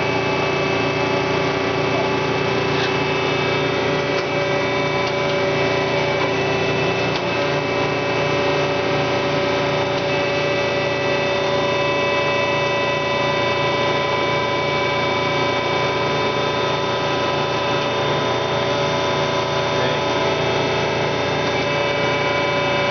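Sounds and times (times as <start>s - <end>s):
band saw motor humming: 0.0s - 22.9s.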